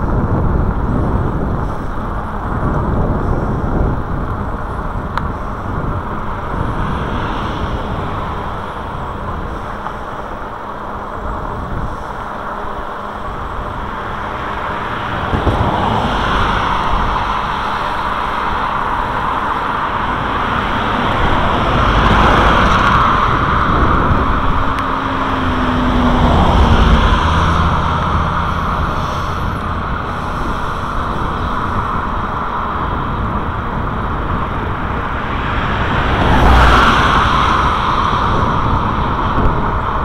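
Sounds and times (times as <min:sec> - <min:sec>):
cars passing close by: 0:00.0 - 0:40.0
road noise rush: 0:00.0 - 0:40.0.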